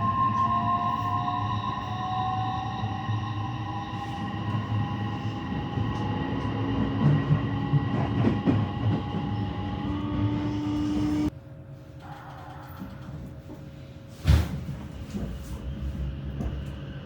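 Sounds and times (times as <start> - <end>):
train wheels rumbling: 0.0 - 11.3, 14.6 - 17.0.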